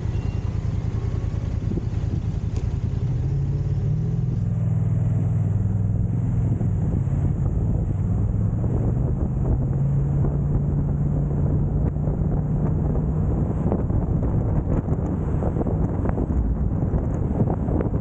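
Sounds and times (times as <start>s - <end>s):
low engine drone: 0.0s - 18.0s
wind over microphone: 1.2s - 18.0s.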